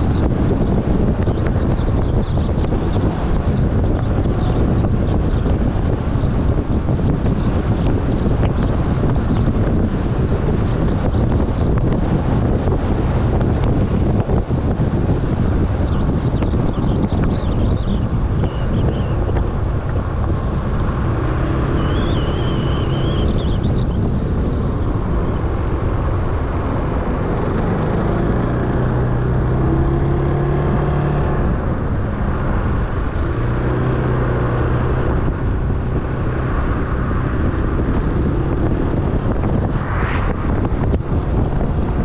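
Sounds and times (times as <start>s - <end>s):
engine drone: 0.0s - 42.0s
vehicle rumble: 0.0s - 42.0s
wind buffeting microphone: 0.0s - 42.0s.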